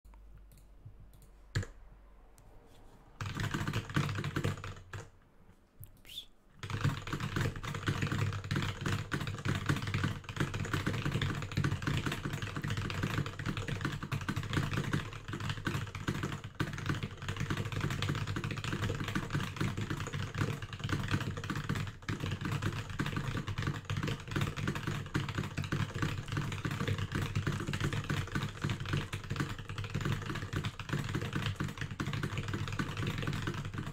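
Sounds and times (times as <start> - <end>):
fast keyboard typing: 0.5 - 1.8, 3.2 - 5.2, 6.6 - 33.9.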